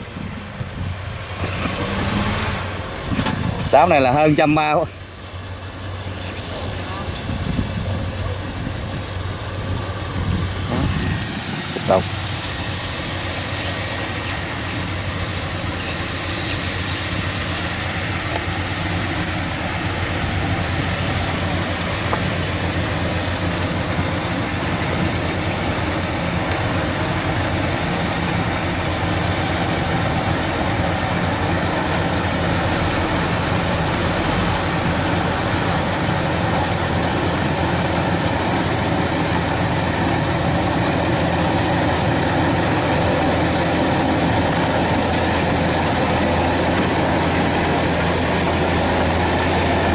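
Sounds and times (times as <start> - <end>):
combine harvester engine running: 0.0 - 49.9.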